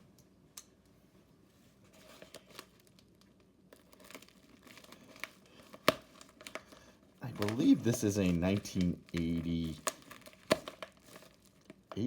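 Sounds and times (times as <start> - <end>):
packaging crinkling and tearing: 1.9 - 12.0.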